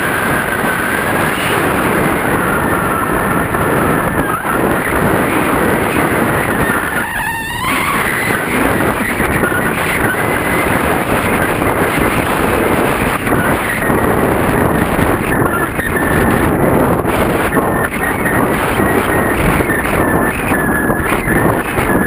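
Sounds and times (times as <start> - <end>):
wind rushing on microphone: 0.0 - 22.0.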